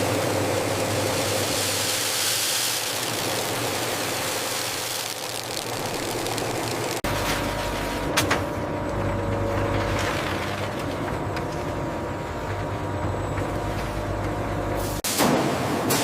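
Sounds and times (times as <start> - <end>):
different steady hum: 0.0 - 15.0
machinery low hum: 0.0 - 15.0.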